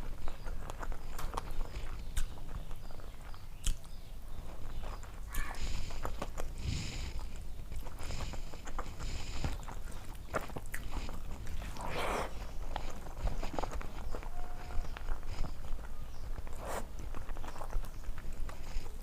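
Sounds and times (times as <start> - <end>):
chewing with wet mouth smacks: 0.0 - 19.0.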